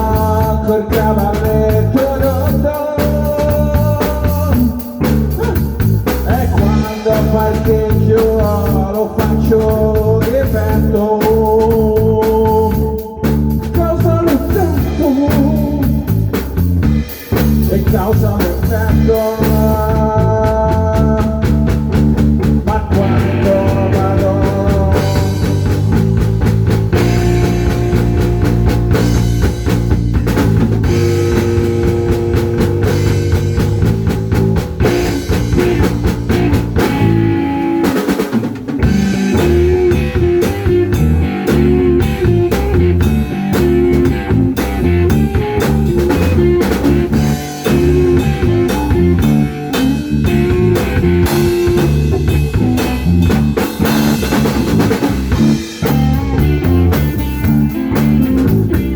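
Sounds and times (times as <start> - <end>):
instrumental rock music: 0.0 - 58.9.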